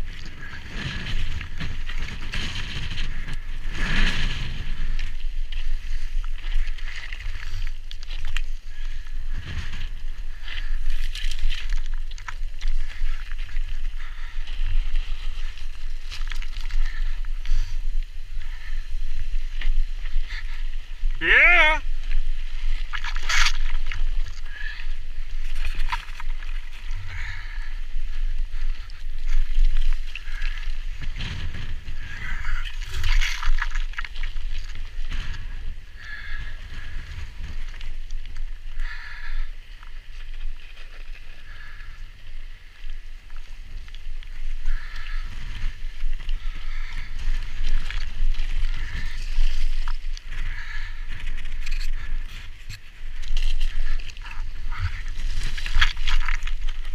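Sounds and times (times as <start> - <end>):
tyres crunching over rocks: 0.0 - 17.8, 18.4 - 27.9, 28.5 - 56.9
bike rattling over bumps: 0.0 - 21.2, 21.9 - 56.9.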